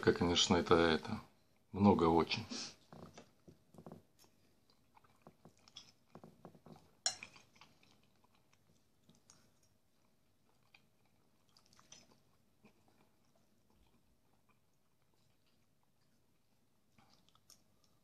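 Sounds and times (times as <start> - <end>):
man chewing food: 2.8 - 18.0.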